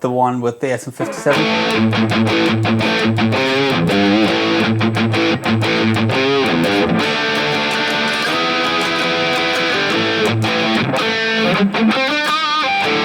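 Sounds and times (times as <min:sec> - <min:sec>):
high-gain electric guitar: 0:01.0 - 0:13.0.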